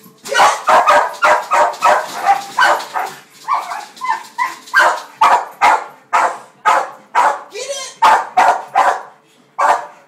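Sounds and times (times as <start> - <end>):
dog yipping: 0.3 - 9.9
dog barking: 0.3 - 10.0.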